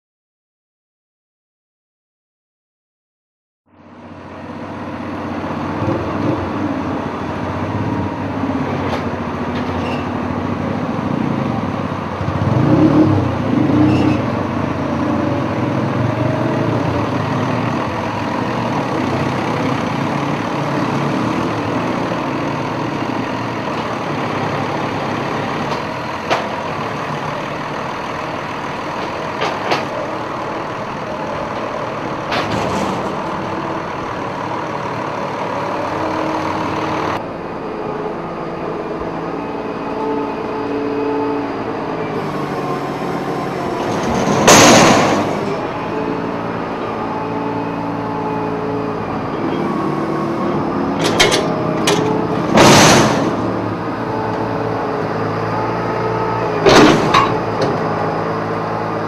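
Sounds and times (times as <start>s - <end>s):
tractor engine running: 3.8s - 59.0s.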